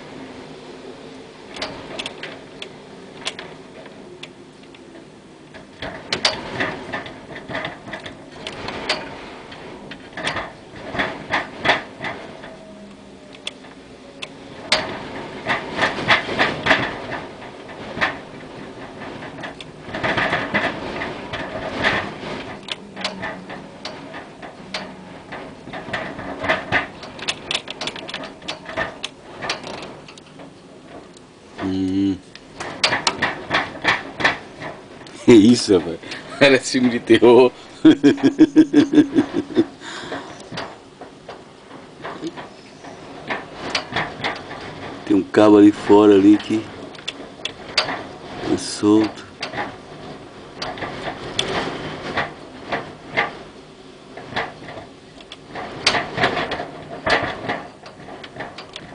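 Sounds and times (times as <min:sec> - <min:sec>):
hurricane wind: 0:00.0 - 0:58.9
loose object banging and rattling: 0:05.5 - 0:12.6, 0:13.4 - 0:58.9.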